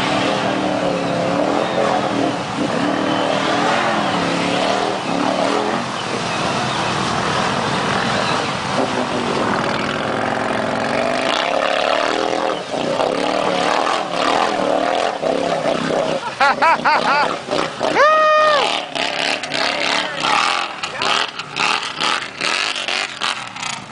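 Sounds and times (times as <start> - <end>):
atv engine revving: 0.0 - 23.9
tyres churning through water: 0.0 - 23.9.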